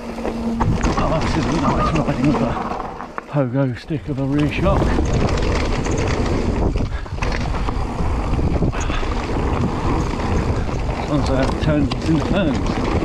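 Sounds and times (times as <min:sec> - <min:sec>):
bike tyres rolling on gravel: 0:00.0 - 0:13.0
wind buffeting microphone: 0:00.0 - 0:13.0.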